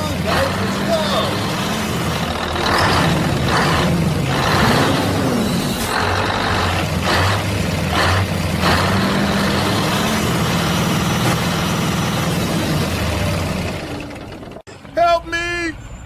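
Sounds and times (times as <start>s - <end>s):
heavy engine humming: 0.0s - 16.0s.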